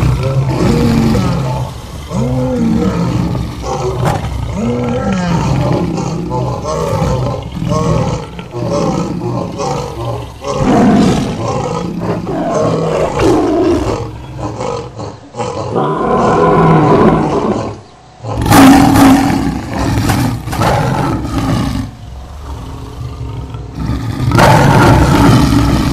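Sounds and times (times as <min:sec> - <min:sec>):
lions roaring: 0:00.0 - 0:25.9.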